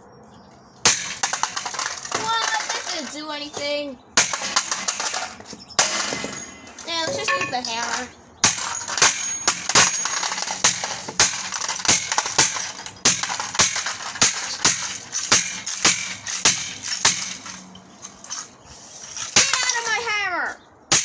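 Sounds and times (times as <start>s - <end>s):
plastic cracking: 0.9s - 18.6s.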